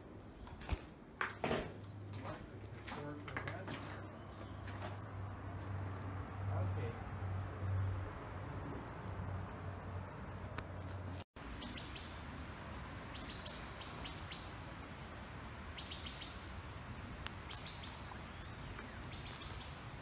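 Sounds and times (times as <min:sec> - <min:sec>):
outdoor background hiss: 0:00.0 - 0:20.0
songbirds chirping: 0:02.1 - 0:10.8, 0:11.4 - 0:20.0.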